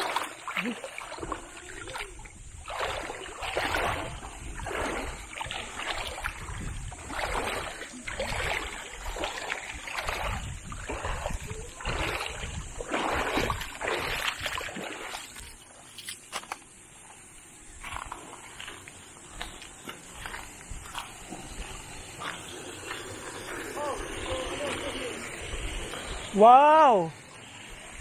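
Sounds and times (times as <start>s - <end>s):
footsteps wading through water: 0.0s - 26.4s.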